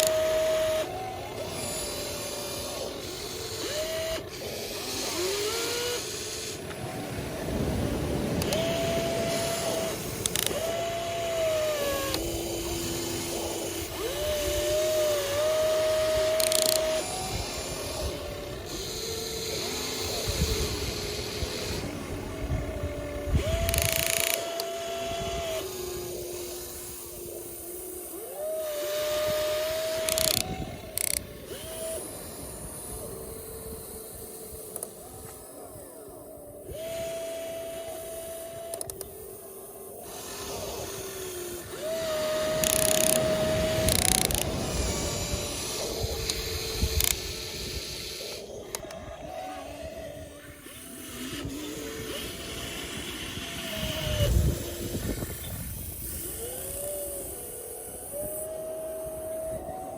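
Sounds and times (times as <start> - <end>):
gears grinding rattle: 0.0 - 59.9
rough noisy background: 0.0 - 59.9
small electric motors whining: 0.0 - 59.9.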